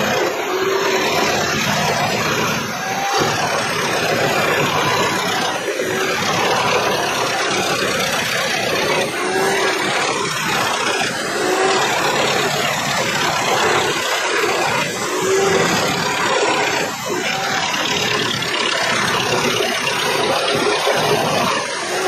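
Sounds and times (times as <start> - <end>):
hydraulic whines: 0.0 - 22.0
wood chipper engine and chipping: 0.0 - 22.0.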